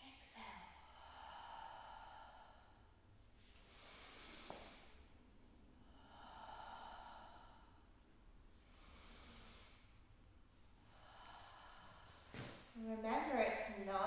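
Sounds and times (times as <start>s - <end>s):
woman breathing slowly: 0.4s - 14.0s.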